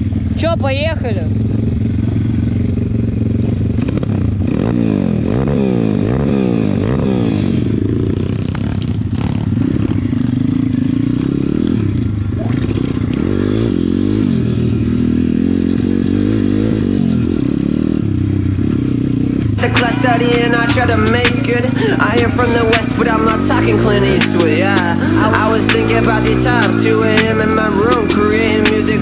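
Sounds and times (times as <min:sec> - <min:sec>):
pit bike engines revving: 0:00.0 - 0:29.0.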